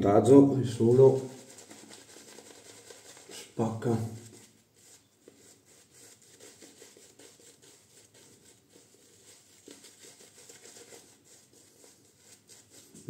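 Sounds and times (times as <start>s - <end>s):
shaving brush swishing lather: 0.5s - 13.0s.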